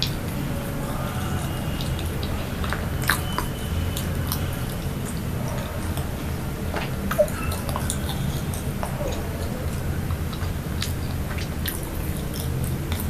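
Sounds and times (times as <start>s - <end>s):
soft chewing with mouth clicks: 0.0s - 13.0s
steady low hum: 0.0s - 13.0s.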